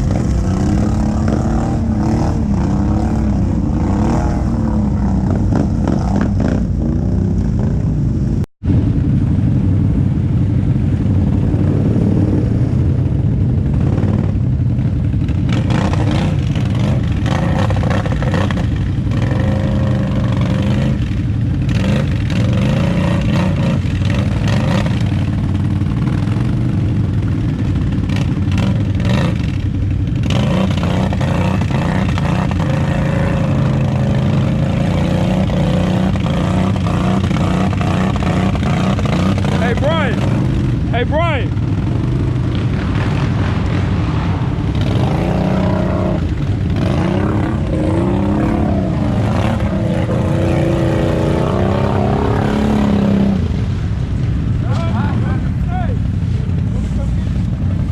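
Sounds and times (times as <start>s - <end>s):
atv engine revving: 0.0s - 8.4s, 9.9s - 57.9s.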